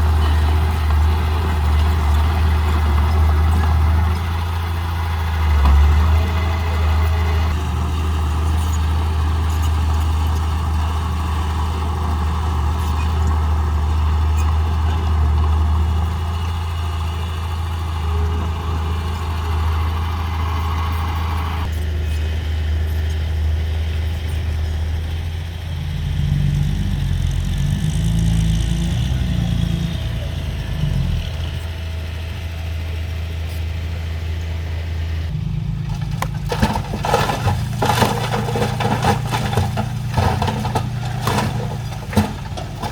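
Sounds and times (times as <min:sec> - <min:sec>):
heavy diesel machinery engine: 0:00.0 - 0:42.9.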